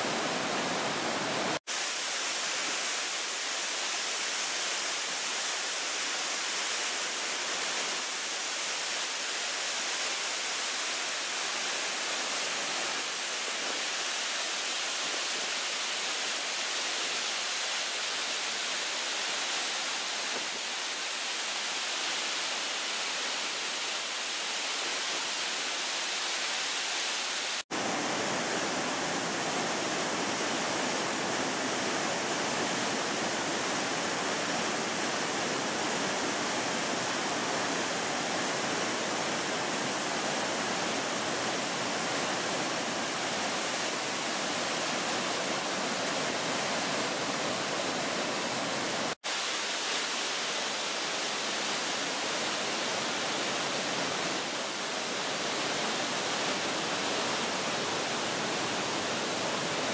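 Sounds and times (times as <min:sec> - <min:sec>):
waterfall rushing over rock: 0:00.0 - 0:59.9.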